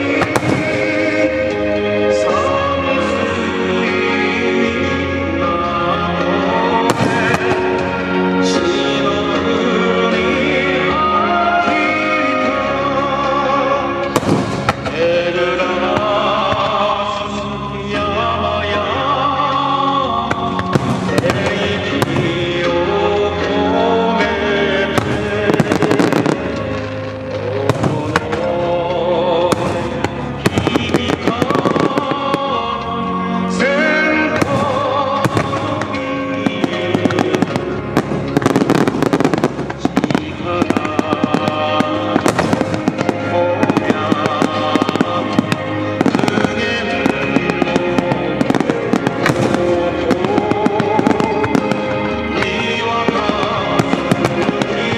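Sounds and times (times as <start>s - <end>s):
song with singing voice: 0.0s - 54.9s.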